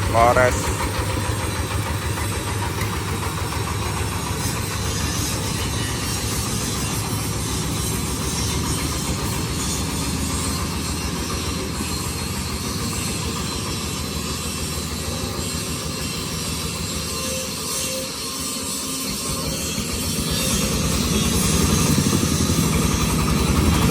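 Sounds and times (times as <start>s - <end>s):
machine clatter: 0.0s - 23.9s.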